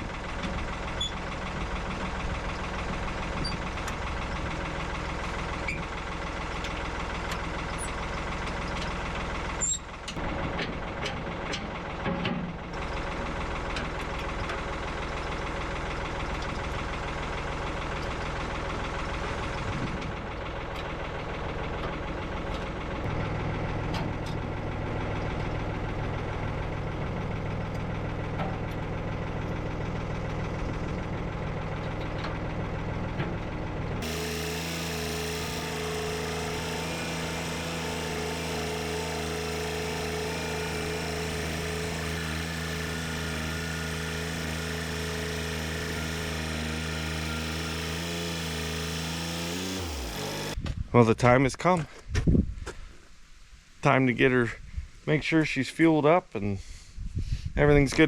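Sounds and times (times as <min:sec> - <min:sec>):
tractor engine idling: 0:00.0 - 0:50.6.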